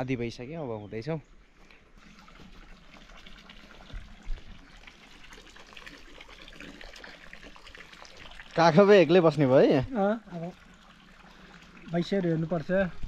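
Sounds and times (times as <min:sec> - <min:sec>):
water trickling: 0:00.9 - 0:13.0.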